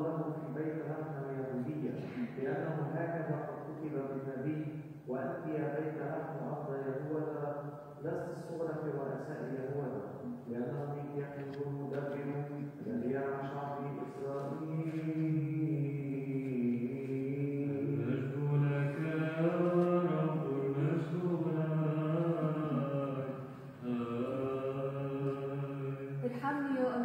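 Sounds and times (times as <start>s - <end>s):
man chanting long held notes: 0.0s - 26.3s.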